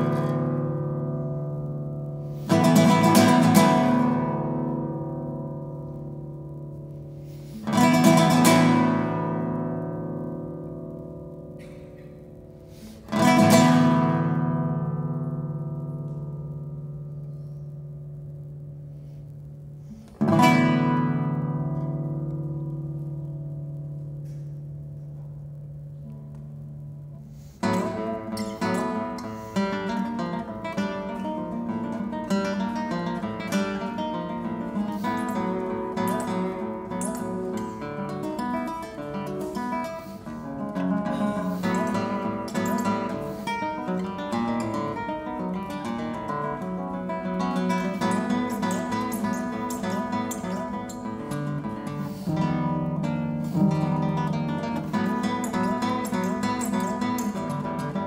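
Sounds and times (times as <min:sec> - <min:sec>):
classical guitar playing: 0:00.0 - 0:58.0.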